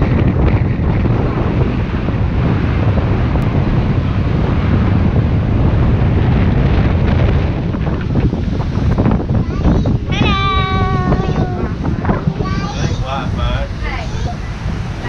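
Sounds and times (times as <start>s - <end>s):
sea wash: 0.0s - 15.0s
wind buffeting microphone: 0.0s - 15.0s.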